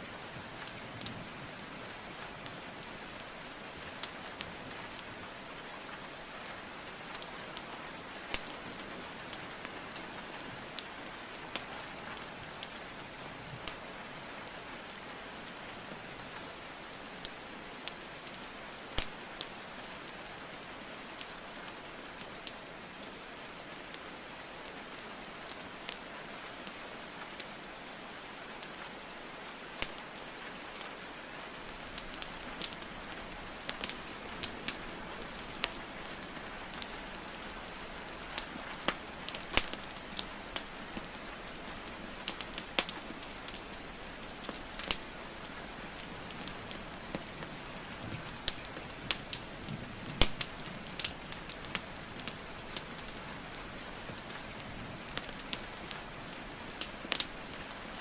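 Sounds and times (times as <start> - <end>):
steady rain: 0.0 - 58.0
burning wood crackling: 0.1 - 58.0.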